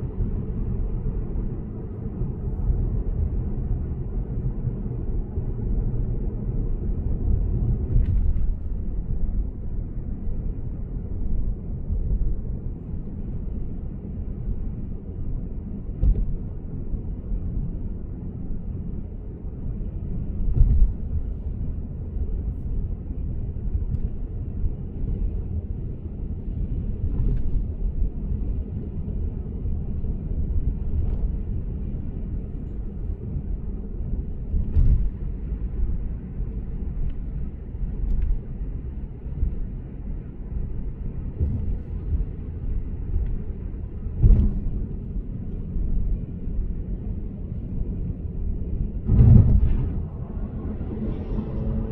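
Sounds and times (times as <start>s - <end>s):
road and tyre rumble: 0.0s - 51.9s.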